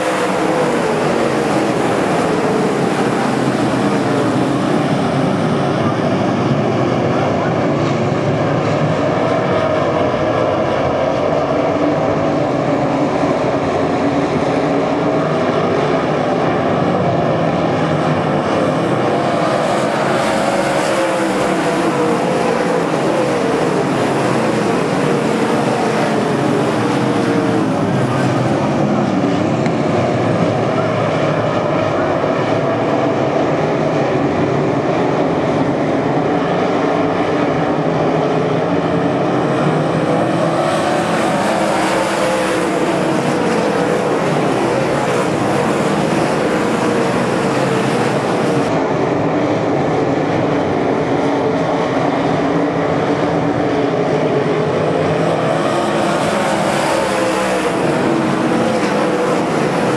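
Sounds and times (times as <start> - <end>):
race car engines at high revs: 0.0 - 59.9.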